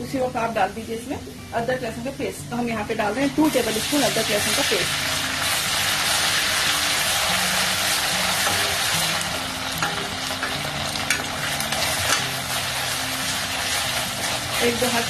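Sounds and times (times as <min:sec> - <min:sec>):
onions sizzling in hot oil: 0:01.8 - 0:15.0.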